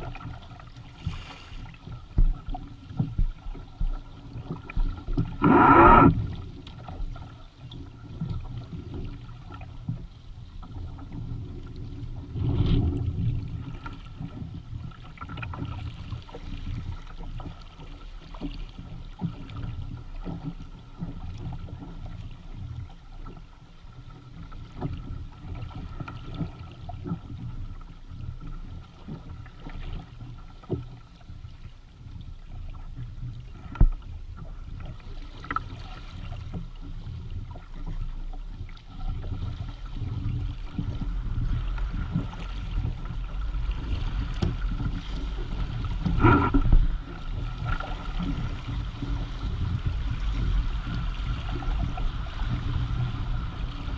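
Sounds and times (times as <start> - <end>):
water splashing against hull: 0.0 - 53.9.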